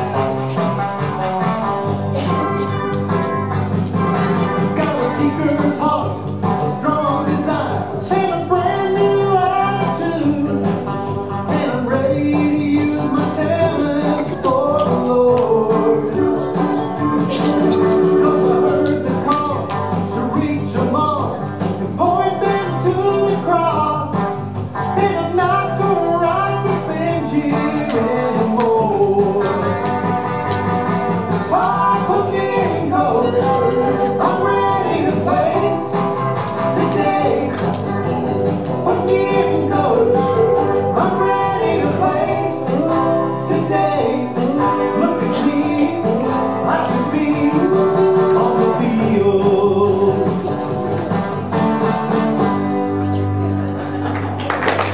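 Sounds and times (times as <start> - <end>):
guitar accompaniment: 0.0 - 54.9
person singing: 4.2 - 24.2, 24.8 - 30.0, 31.4 - 51.2.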